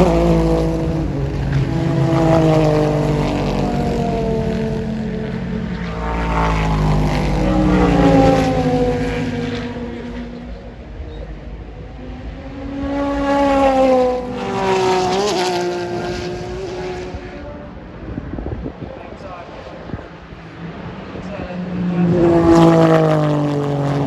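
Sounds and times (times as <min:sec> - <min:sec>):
race cars passing: 0:00.0 - 0:24.0.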